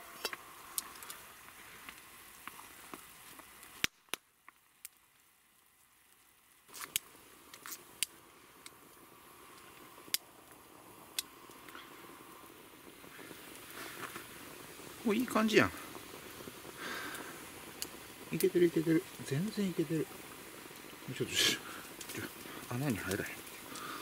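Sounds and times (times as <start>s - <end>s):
campfire crackling and popping: 0.0s - 24.0s
faint steady hiss: 0.0s - 24.0s.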